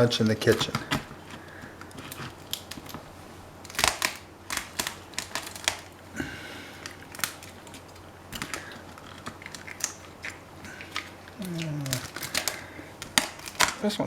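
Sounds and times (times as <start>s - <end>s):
shell cracking: 0.0s - 13.9s.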